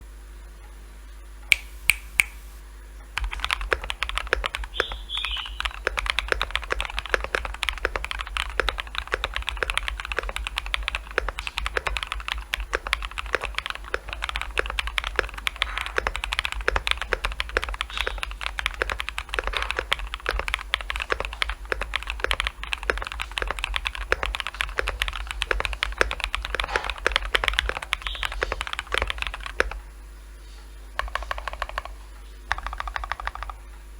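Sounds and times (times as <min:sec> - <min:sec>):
mechanical keyboard typing: 0:03.2 - 0:29.9, 0:31.0 - 0:33.6.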